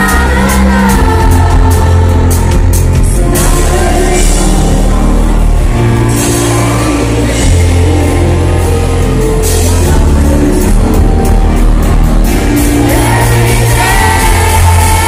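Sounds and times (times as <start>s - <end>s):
drums: 0.0s - 15.0s
heavy bass: 0.0s - 15.0s
live band playing loudly: 0.0s - 15.0s.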